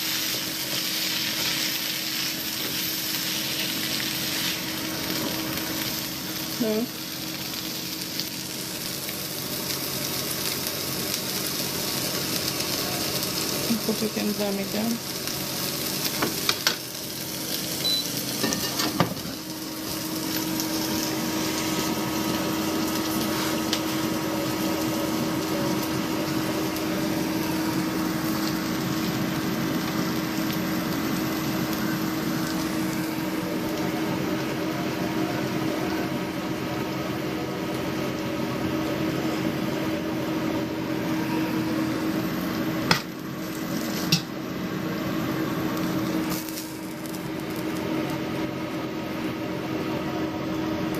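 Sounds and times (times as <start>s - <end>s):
kitchen appliance humming: 0.0s - 50.9s.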